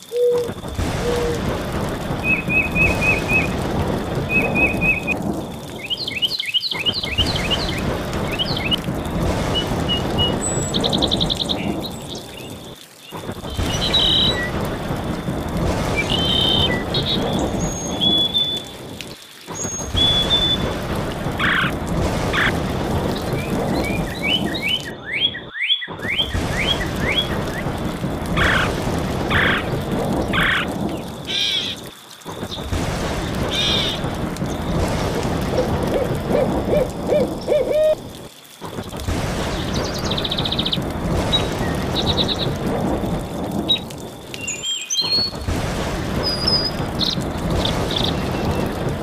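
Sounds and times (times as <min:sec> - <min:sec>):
steady rain: 0:00.0 - 0:49.0
thunder rumble: 0:00.0 - 0:49.0.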